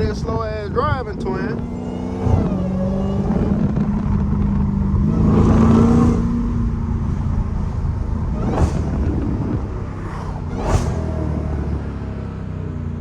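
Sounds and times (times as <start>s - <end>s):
car exhaust rumble: 0.0s - 13.0s.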